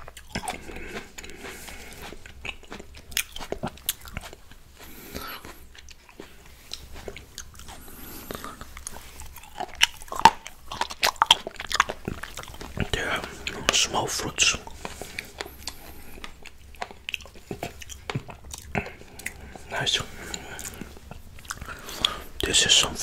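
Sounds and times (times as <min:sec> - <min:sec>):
chewing grapes with wet crunches: 0:00.0 - 0:23.0.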